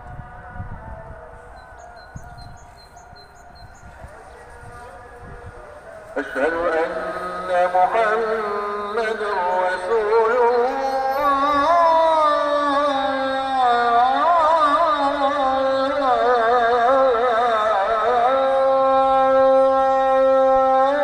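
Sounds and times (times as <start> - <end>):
person chanting a prayer: 1.6 - 21.0.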